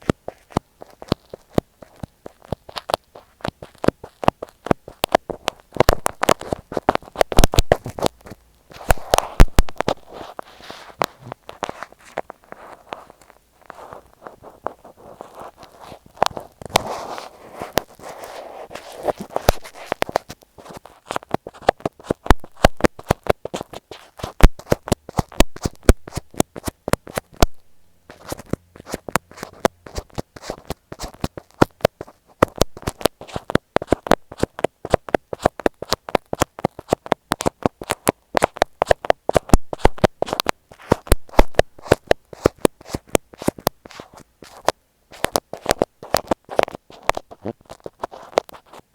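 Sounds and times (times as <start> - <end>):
soft rubbing on tape: 0.0 - 48.9
tapping on earphone microphone: 0.0 - 48.9.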